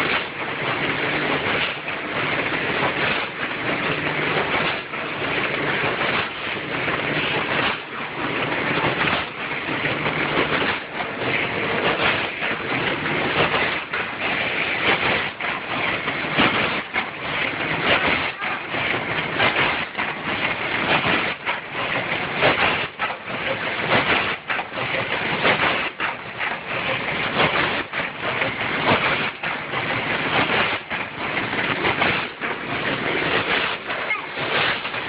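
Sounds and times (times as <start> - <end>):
packaging machine clattering: 0.0 - 35.0.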